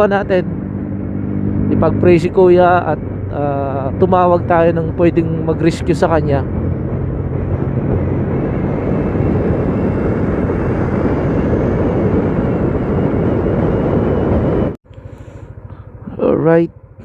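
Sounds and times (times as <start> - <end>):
wind rushing: 0.0 - 14.8
faint engine hum: 0.0 - 17.0
vehicle road noise: 0.0 - 17.0.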